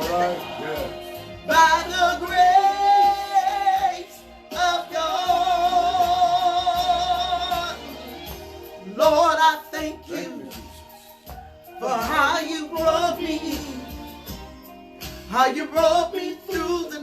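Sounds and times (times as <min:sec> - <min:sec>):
instrumental backing: 0:00.0 - 0:17.0
person singing with vibrato: 0:00.9 - 0:14.4, 0:15.2 - 0:17.0.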